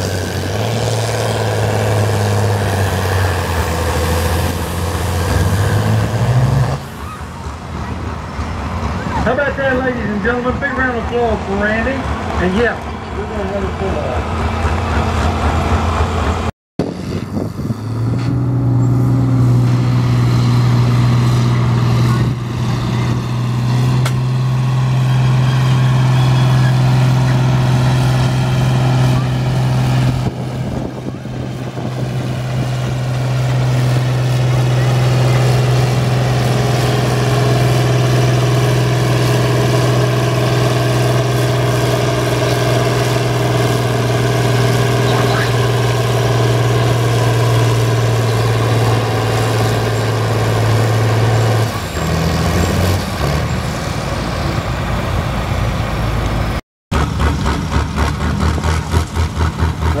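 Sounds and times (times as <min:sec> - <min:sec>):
tractor engine running unevenly: 0:00.0 - 0:52.9
tractor engine running flat out: 0:00.0 - 1:00.0.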